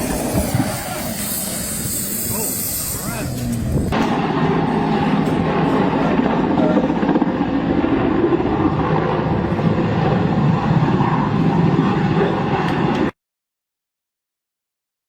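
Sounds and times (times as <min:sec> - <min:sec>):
helicopter engine and rotor: 0:00.0 - 0:13.2.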